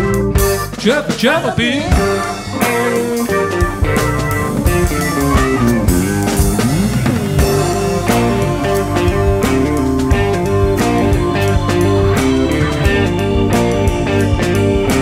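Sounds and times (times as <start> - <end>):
bass guitar: 0.0 - 15.0
drum kit: 0.0 - 15.0
electric guitar: 0.0 - 15.0
keyboard: 0.0 - 15.0.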